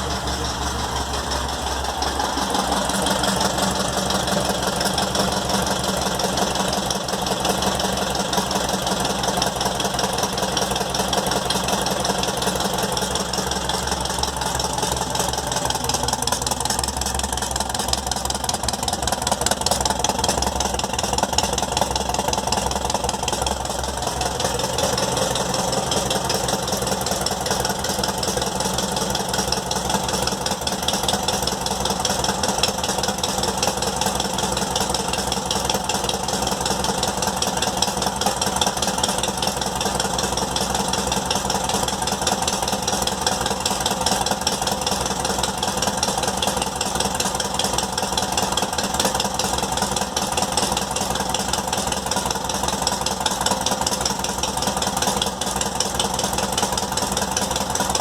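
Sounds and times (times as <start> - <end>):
car engine idling without muffler: 0.0 - 58.0.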